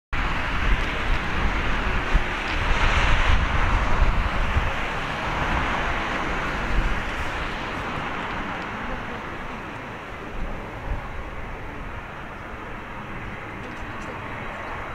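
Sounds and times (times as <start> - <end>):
wind buffeting microphone: 0.1 - 14.9
jet engines taxiing: 0.2 - 14.9.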